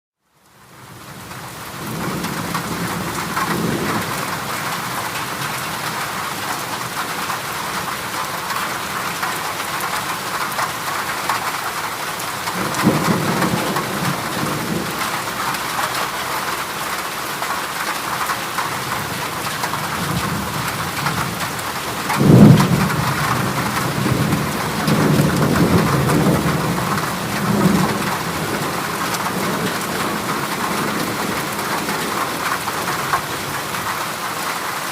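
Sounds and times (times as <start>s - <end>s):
rain on a metal roof: 0.2s - 34.9s
thunder rumbles: 1.6s - 11.4s, 12.3s - 17.0s, 17.9s - 34.0s.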